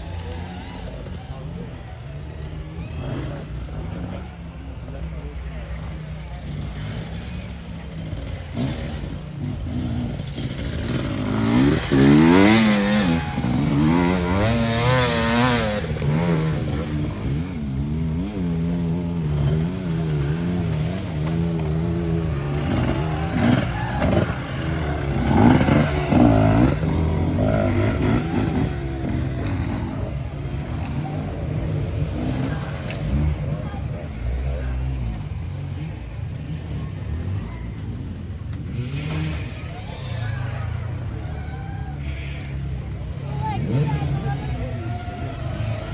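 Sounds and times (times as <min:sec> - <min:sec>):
off-road engines revving: 0:00.0 - 0:45.9.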